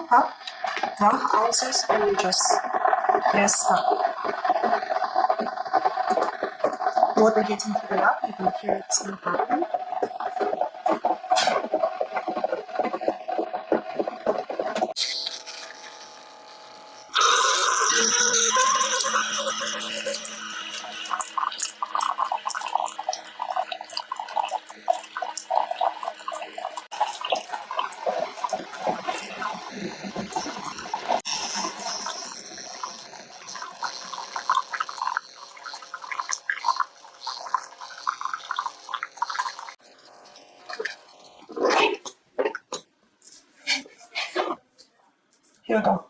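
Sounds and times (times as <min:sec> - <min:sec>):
coffee maker gurgling and sputtering: 0:00.0 - 0:42.9.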